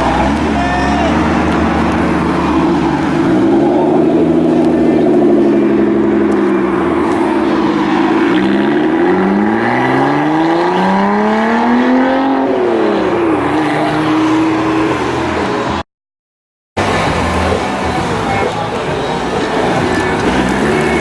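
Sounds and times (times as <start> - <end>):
car engine accelerating: 0.0 - 15.8, 16.8 - 21.0.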